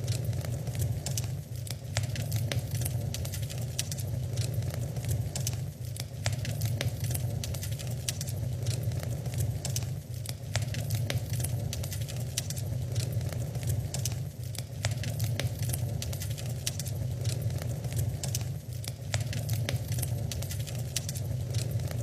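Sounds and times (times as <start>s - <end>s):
low rumble of burning logs: 0.0s - 22.0s
wood fire crackling: 0.0s - 22.0s.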